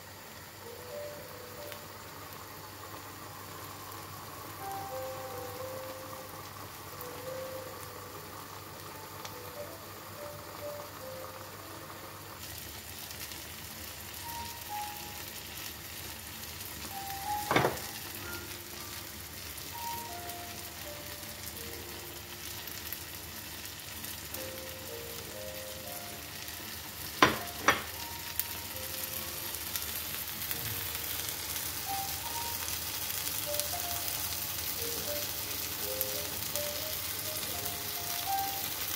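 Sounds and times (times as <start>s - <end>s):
food sizzling in a frying pan: 0.0s - 38.9s
soft background music: 0.2s - 38.9s.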